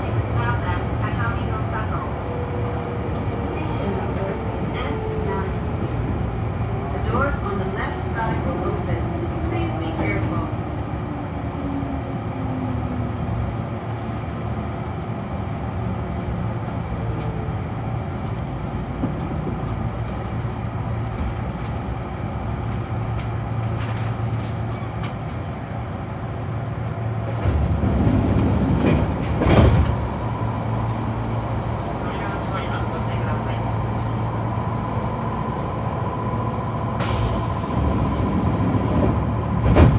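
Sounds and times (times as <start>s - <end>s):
electric train rumbling on rails: 0.0s - 39.9s.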